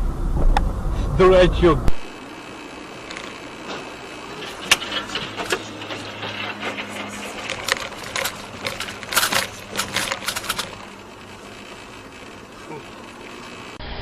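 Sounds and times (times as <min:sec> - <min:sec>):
low vehicle hum: 0:00.0 - 0:14.0
irregular sharp clicks and ticks: 0:02.5 - 0:13.8.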